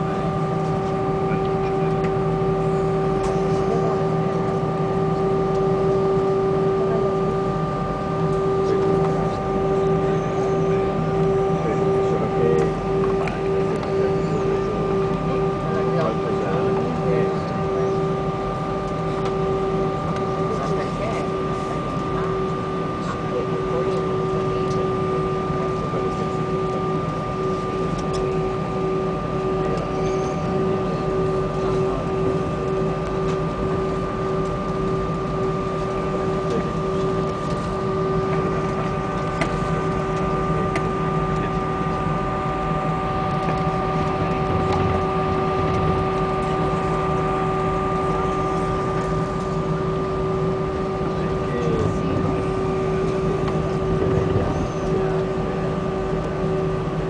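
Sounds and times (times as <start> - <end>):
airliner cabin engine hum: 0.0 - 57.0.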